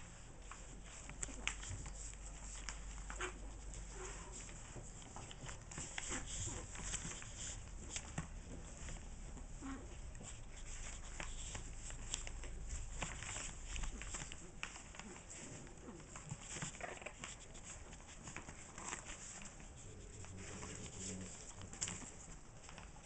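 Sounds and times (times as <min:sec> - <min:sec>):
newspaper crinkling and rustling: 0:00.0 - 0:23.0.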